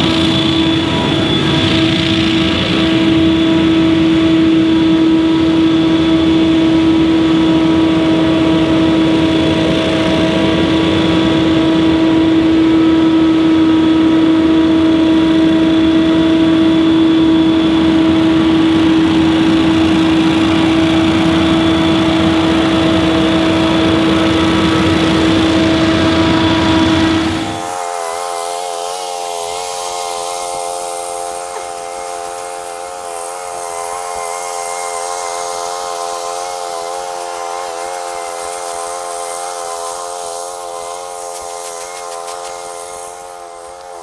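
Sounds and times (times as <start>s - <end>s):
leaf blower engine droning: 0.0s - 44.0s.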